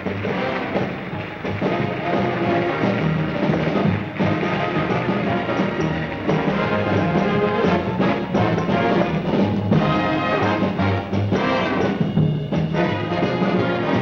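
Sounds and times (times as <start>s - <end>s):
brass instruments: 0.0s - 14.0s
orchestra playing: 0.0s - 14.0s.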